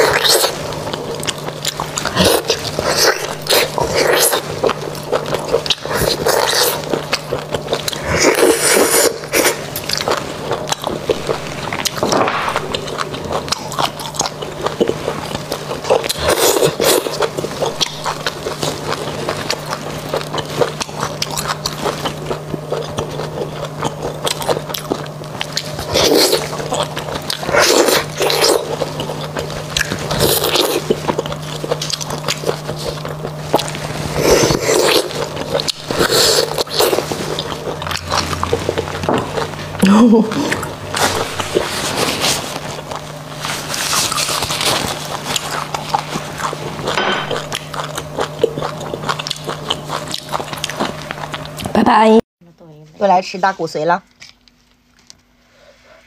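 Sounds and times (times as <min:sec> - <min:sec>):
wet chewing and sucking sounds: 0:00.0 - 0:51.8.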